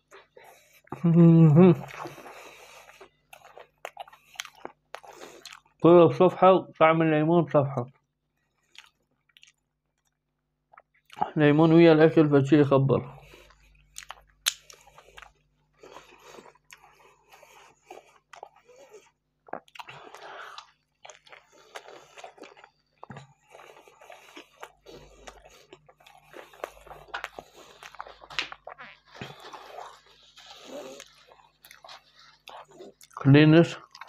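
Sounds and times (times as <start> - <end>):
person chewing crunchy food: 0.0 - 5.8, 8.4 - 11.3, 13.2 - 34.0.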